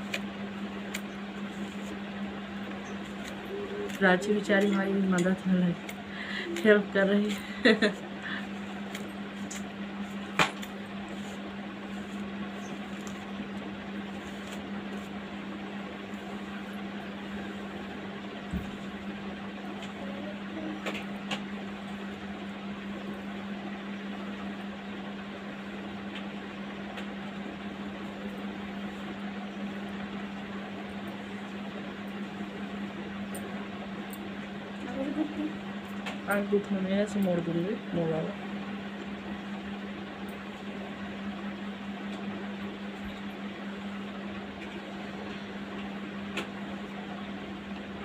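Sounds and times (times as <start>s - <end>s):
electric motor hum: 0.0s - 48.0s.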